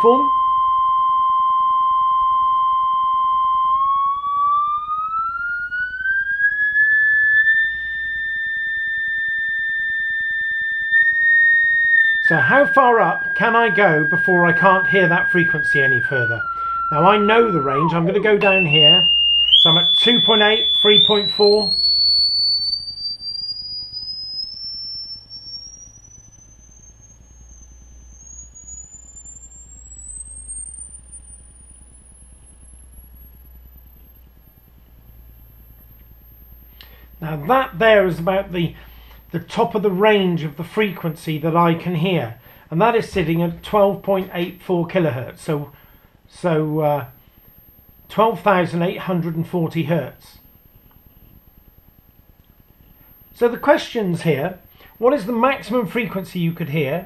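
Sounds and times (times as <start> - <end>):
sine-wave test tone rising: 0.0 - 57.0.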